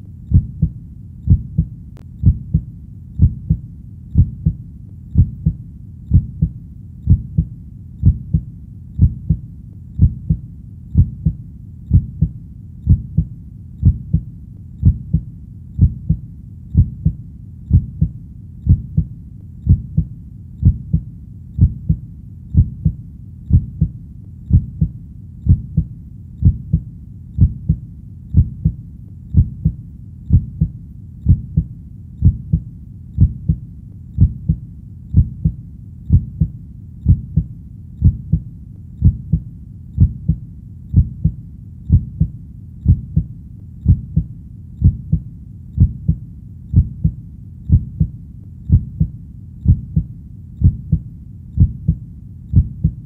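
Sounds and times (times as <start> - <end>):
human heartbeat: 0.0 - 33.6, 34.2 - 53.0.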